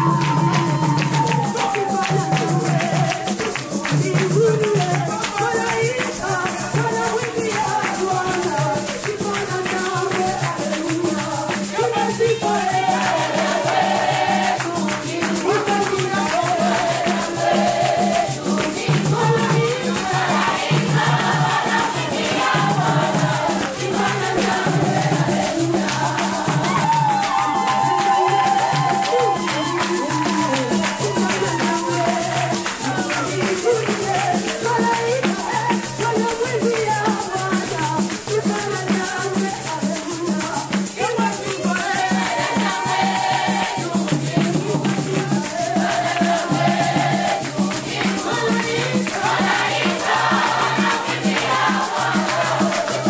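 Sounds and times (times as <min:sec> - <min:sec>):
shaker rhythm: 0:00.0 - 0:53.0
voices singing: 0:00.0 - 0:53.0.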